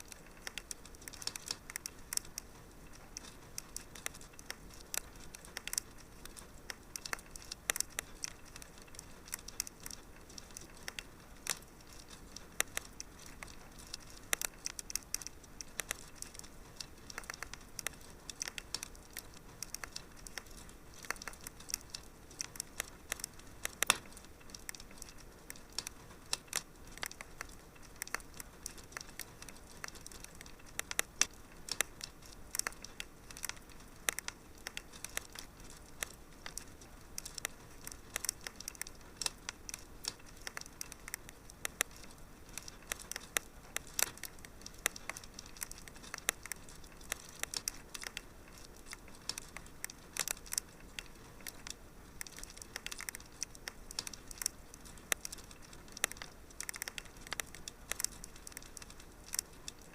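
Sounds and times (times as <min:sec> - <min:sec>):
soft steady fire hiss: 0:00.0 - 0:59.9
wood fire crackling and popping: 0:00.0 - 0:59.9.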